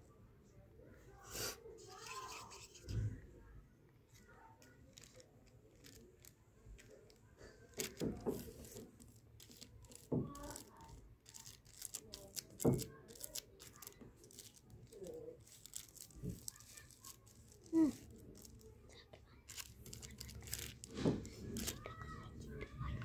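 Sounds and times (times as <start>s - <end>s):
faint plastic crinkling: 1.8s - 23.0s.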